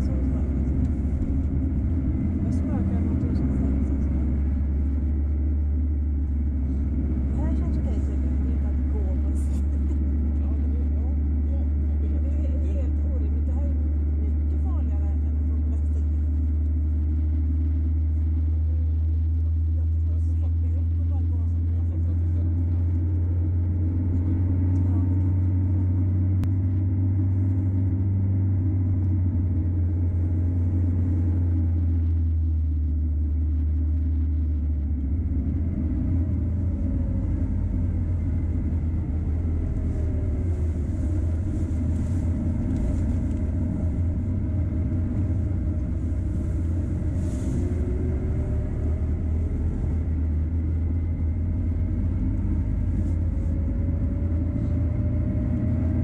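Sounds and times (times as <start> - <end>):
van engine and road rumble: 0.0 - 56.0.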